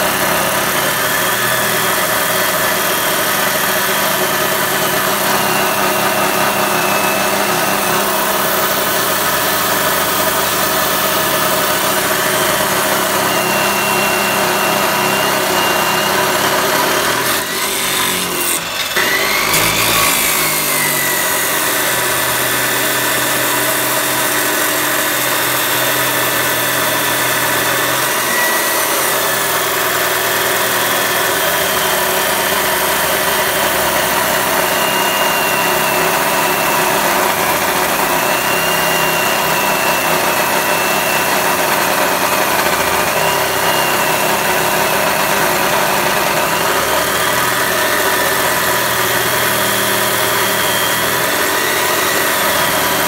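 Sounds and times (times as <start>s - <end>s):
abrasive saw grinding metal bar: 0.0s - 53.0s.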